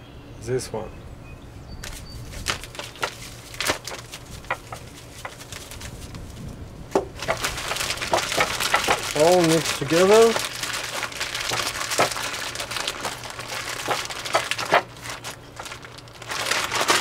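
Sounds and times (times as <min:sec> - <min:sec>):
plastic bag crinkling: 0:01.9 - 0:06.5, 0:07.1 - 0:17.0.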